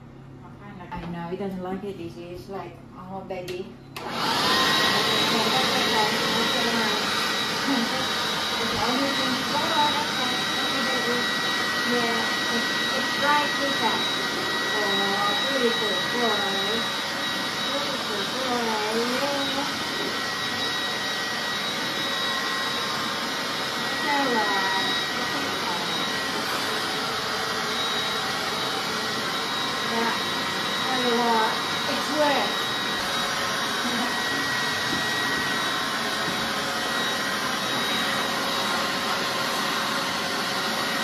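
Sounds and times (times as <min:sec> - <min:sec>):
electric leaf blower running: 0:04.0 - 0:41.0.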